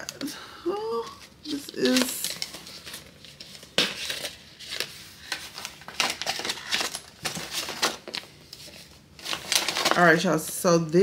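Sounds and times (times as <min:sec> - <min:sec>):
packaging crinkling and rustling: 0:01.1 - 0:10.6.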